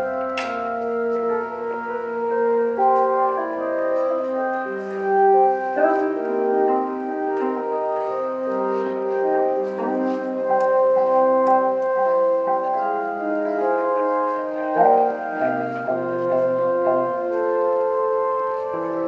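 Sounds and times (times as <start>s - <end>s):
instrumental music held chords: 0.0s - 19.0s.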